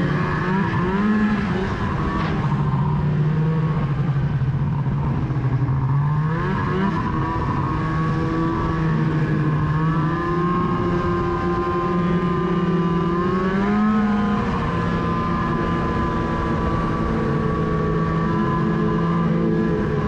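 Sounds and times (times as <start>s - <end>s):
snowmobile engine running: 0.0s - 20.0s.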